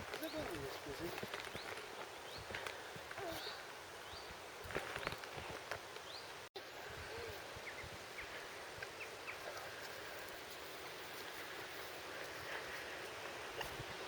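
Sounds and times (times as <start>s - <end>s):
rustling hiss: 0.0s - 14.0s.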